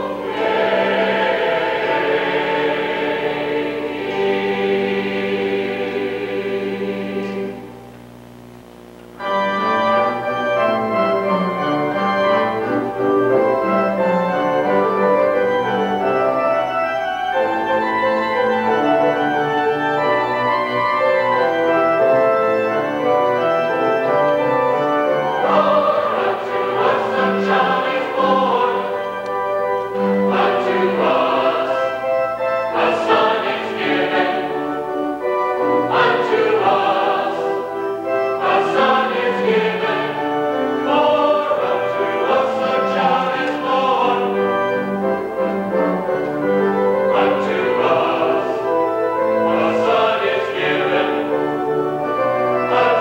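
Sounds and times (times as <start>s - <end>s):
choir singing: 0.0s - 7.8s, 9.2s - 53.0s
organ and strings: 0.0s - 53.0s.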